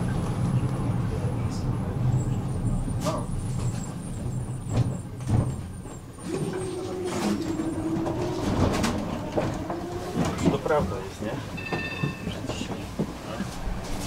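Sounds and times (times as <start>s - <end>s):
steady tram hum: 0.0s - 14.0s
tram rumbling: 0.0s - 14.0s.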